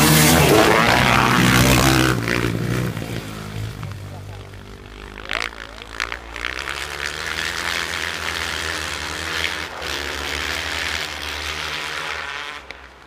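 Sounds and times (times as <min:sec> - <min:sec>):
steady rushing noise: 0:00.0 - 0:12.0
distant racing motorcycle engines: 0:00.0 - 0:13.0.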